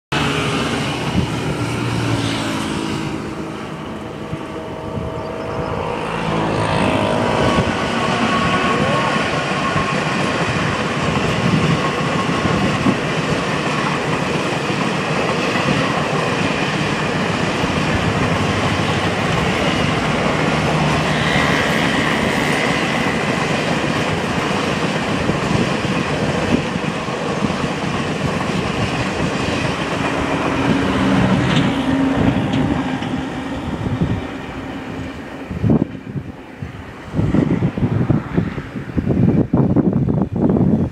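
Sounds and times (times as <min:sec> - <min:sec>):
train rumbling past: 0:00.1 - 0:40.9.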